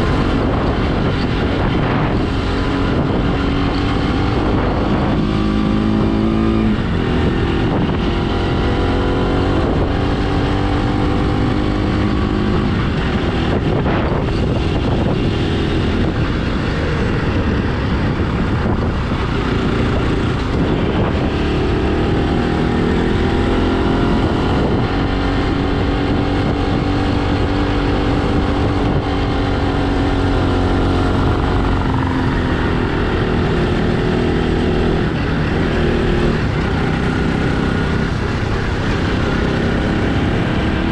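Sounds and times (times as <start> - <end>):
motorcycle engine revving: 0.0 - 40.9
steady rushing noise: 0.0 - 40.9.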